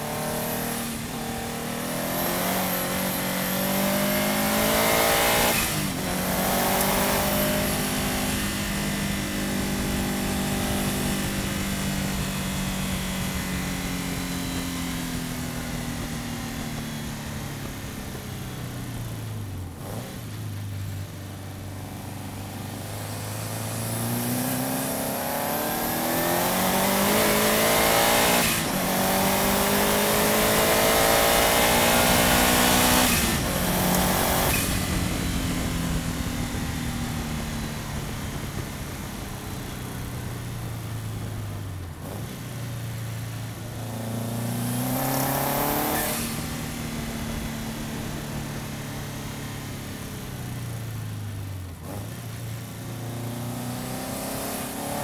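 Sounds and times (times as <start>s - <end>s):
car engine revving: 0.0s - 55.0s
gear changes: 0.0s - 55.0s
wind and road noise: 0.0s - 55.0s.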